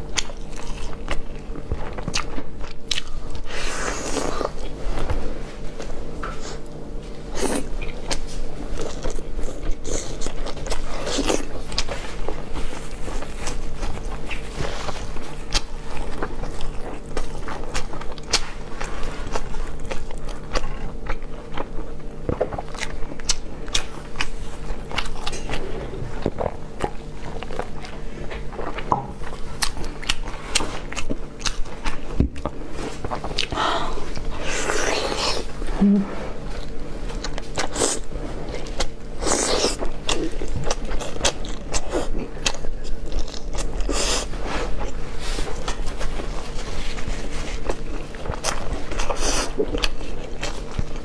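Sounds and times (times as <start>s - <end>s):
person chewing crunchy food: 0.0s - 51.0s
steady low hum: 0.0s - 51.0s.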